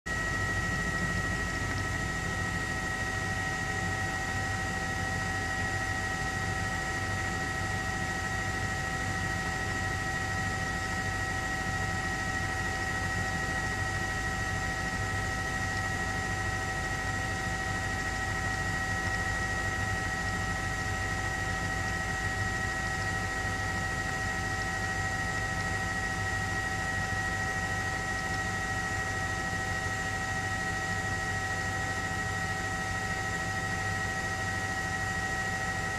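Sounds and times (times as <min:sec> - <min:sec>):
helicopter turbine and rotor: 0:00.1 - 0:35.9.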